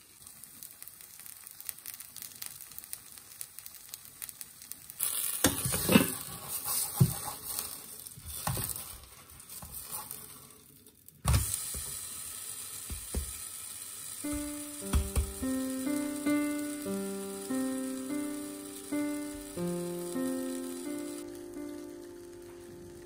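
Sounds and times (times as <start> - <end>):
pancake batter sizzling in oil: 0.0 - 23.0.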